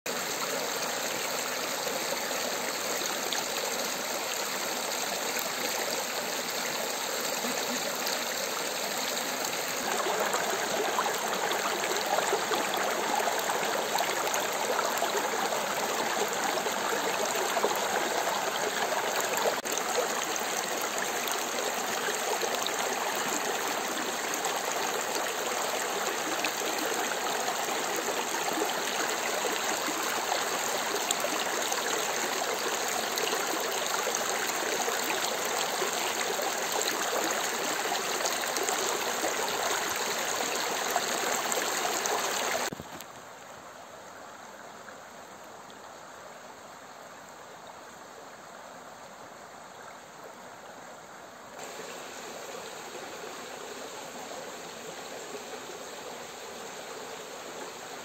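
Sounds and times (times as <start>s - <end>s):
stream water flowing: 0.1s - 58.0s.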